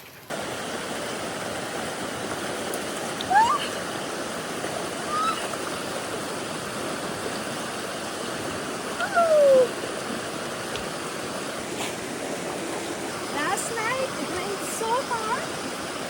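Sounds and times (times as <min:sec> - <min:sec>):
creek rushing: 0:00.1 - 0:16.0.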